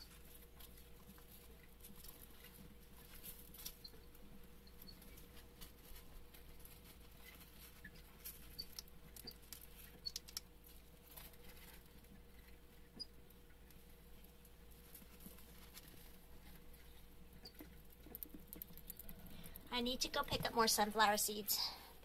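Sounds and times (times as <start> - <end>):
hamsters nibbling food: 0.0 - 21.4.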